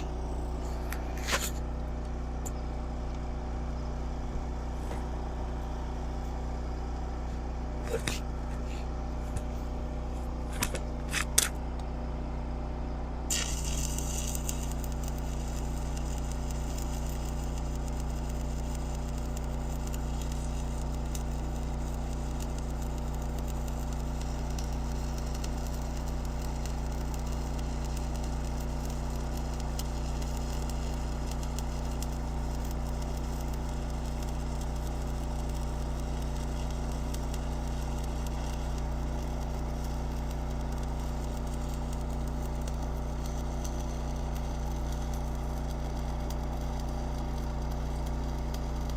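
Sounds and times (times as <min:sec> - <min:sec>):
electrical hum: 0:00.0 - 0:48.9
welding arc crackling: 0:00.0 - 0:48.9.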